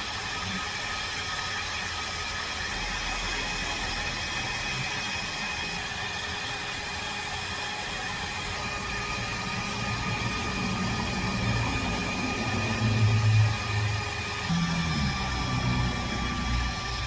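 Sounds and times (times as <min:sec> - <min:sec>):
heat gun fan hiss: 0:00.0 - 0:17.0.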